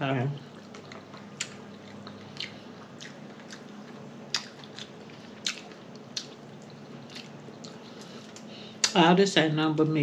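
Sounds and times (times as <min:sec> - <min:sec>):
faint steady hum: 0:00.0 - 0:10.0
wet chewing with lip smacking: 0:00.4 - 0:09.0.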